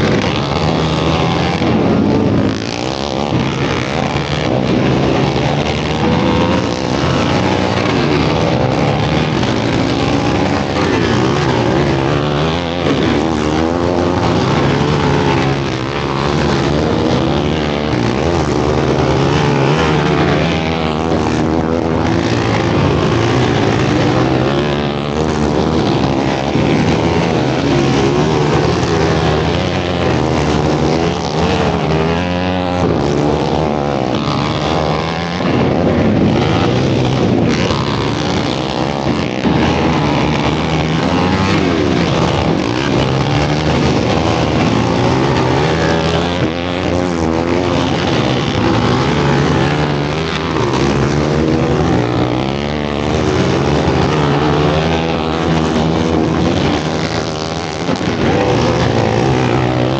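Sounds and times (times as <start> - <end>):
quad engines revving: 0.0 - 59.9.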